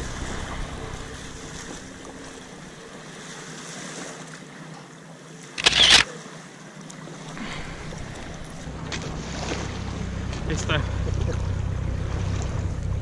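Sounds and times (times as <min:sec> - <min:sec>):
lakeshore water: 0:00.0 - 0:13.0
wind: 0:00.0 - 0:13.0.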